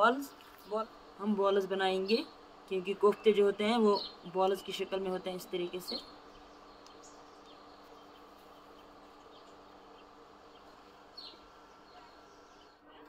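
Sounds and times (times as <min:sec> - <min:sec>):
faint steady hum: 0:00.0 - 0:13.0
faint high bird chirps: 0:00.2 - 0:13.0.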